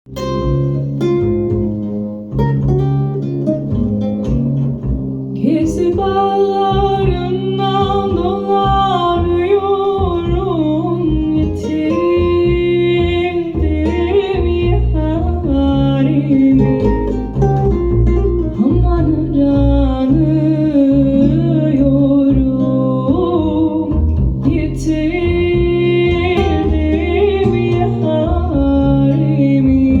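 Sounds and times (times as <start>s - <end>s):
plucked string instrument: 0.0s - 30.0s
folk song over loudspeakers: 4.6s - 30.0s
person singing: 5.4s - 17.8s, 18.4s - 30.0s.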